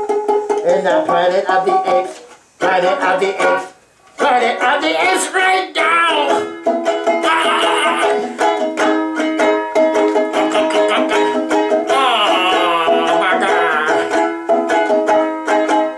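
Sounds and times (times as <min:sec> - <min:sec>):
ukulele strummed fast: 0:00.0 - 0:15.9.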